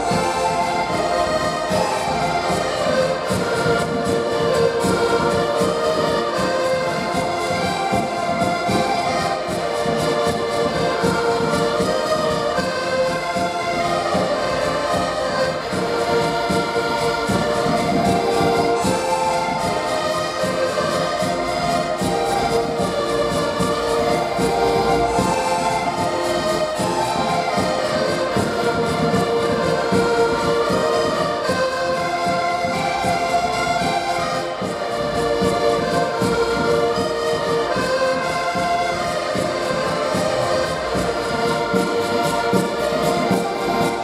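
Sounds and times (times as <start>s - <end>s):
accordion ensemble playing: 0.0s - 44.0s.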